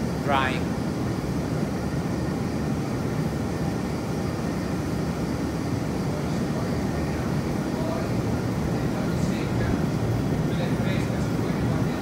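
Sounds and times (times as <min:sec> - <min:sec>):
industrial ventilation fans running: 0:00.0 - 0:12.0.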